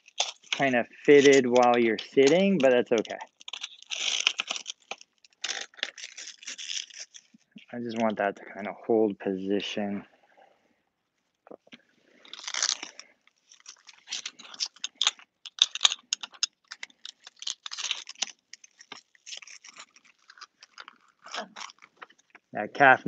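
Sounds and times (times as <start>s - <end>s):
plastic brace crackling and clicking: 0.0s - 8.2s, 11.7s - 22.6s.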